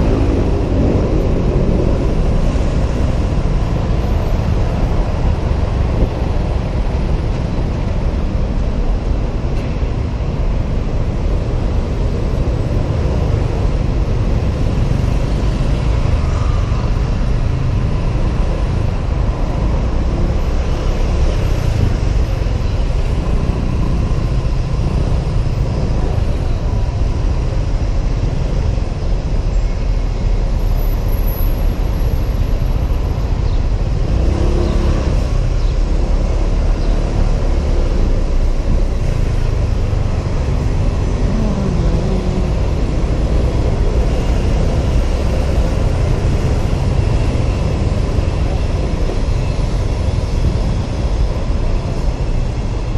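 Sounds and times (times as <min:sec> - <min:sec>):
surrounding traffic: 0:00.0 - 0:52.9
wind noise on microphone: 0:00.0 - 0:52.9.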